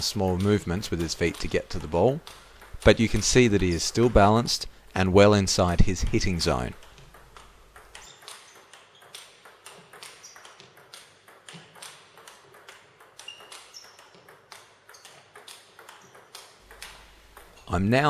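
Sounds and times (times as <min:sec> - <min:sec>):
table tennis ball clicking: 0:00.0 - 0:04.7, 0:05.7 - 0:17.8.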